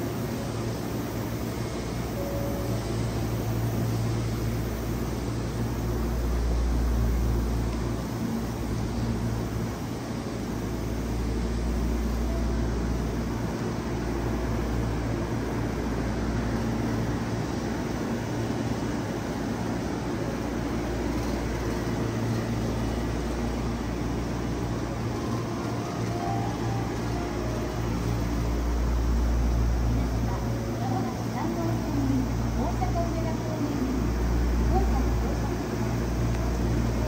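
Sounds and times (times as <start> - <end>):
electric train rumbling: 0.0 - 37.0
faint hum: 0.0 - 37.0.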